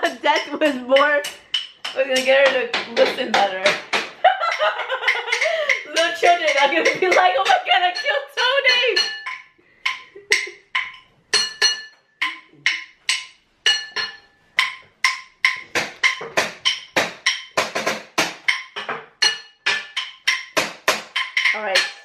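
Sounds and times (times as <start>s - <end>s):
wood block knocks: 0.0s - 22.0s.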